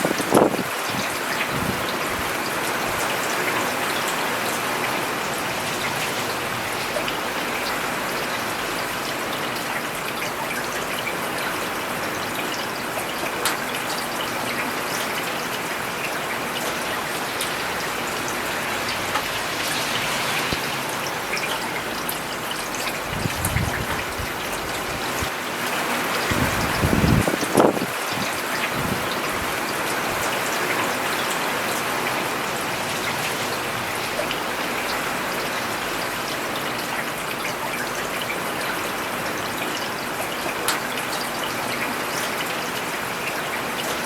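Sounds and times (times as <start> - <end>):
rain falling on a road: 0.0 - 44.0.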